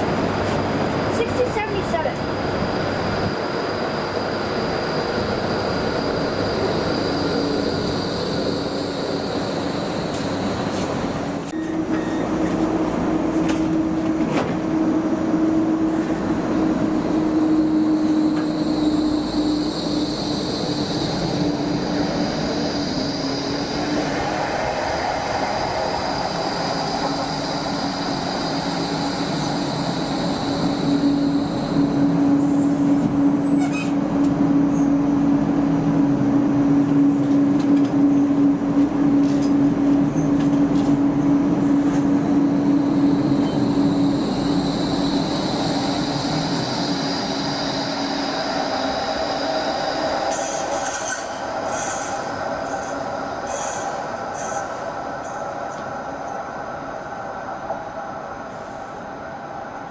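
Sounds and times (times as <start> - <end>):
tram motor whine: 0.0 - 59.9
tram wheels rolling on rails: 0.0 - 59.9.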